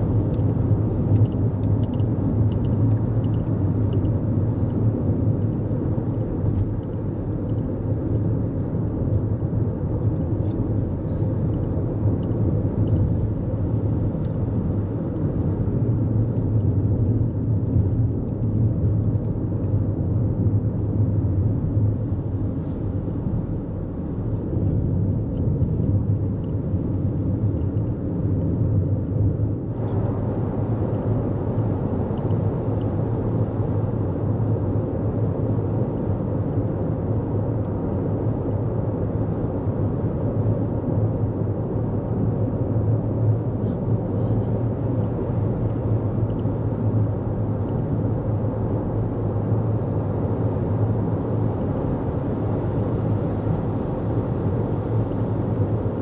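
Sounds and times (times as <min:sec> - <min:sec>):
road rumble and tyre noise: 0:00.0 - 0:56.0.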